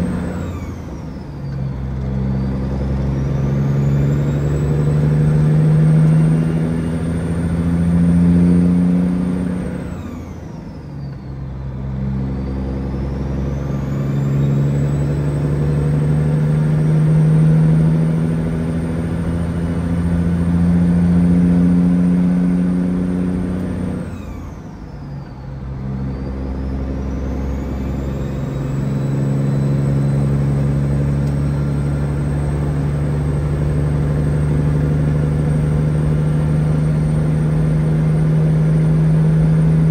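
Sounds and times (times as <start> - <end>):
diesel truck engine pulling: 0.0 - 39.9.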